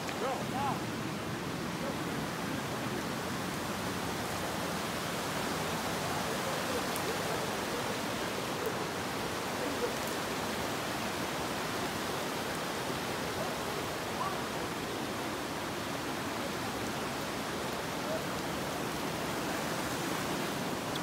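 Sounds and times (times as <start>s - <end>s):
river rushing over stones: 0.0s - 21.0s.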